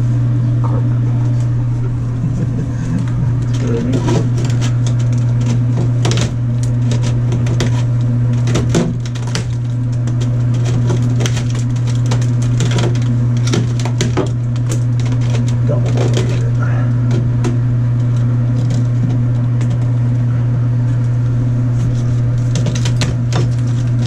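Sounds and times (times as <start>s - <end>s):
low machine hum: 0.0s - 24.0s
tiles cracking and crunching: 3.0s - 20.3s, 20.9s - 24.0s.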